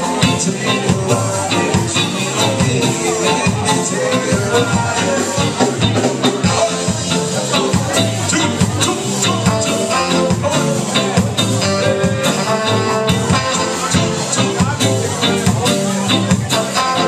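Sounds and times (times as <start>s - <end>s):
drums: 0.0s - 17.0s
saxophone: 0.0s - 17.0s
ska band playing live: 0.0s - 17.0s
trombone: 0.0s - 17.0s.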